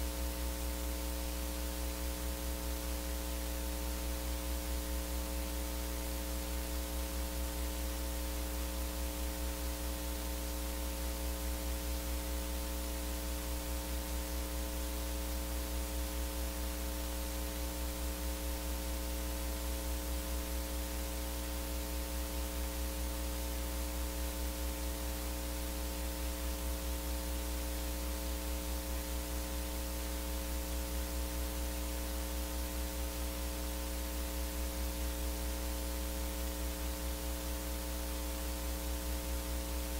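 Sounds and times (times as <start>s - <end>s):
electrical mains hum with hiss: 0.0s - 39.9s.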